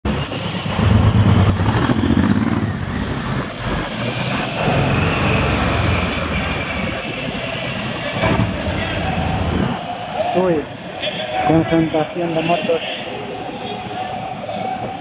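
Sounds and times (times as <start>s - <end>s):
road noise rushing: 0.1s - 15.0s.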